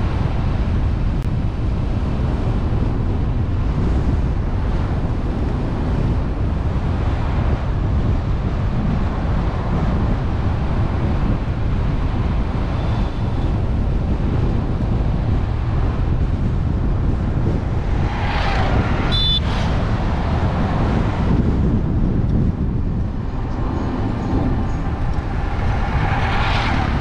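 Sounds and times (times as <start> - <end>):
car road and wind noise: 0.0 - 27.0
wind rumble on microphone: 0.0 - 27.0.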